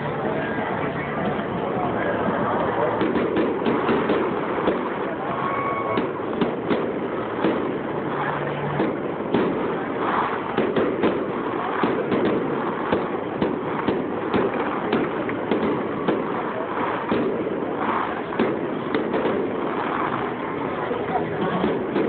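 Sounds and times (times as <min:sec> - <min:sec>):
fireworks crackling: 0:00.0 - 0:22.0
firework shells bursting: 0:02.9 - 0:22.0.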